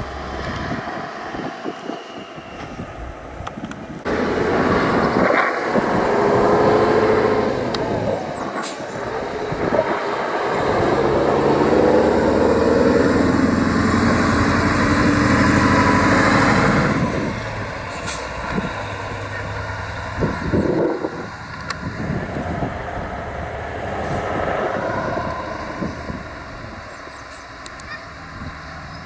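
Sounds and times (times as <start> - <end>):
diesel truck engine running hard: 0.0 - 29.0.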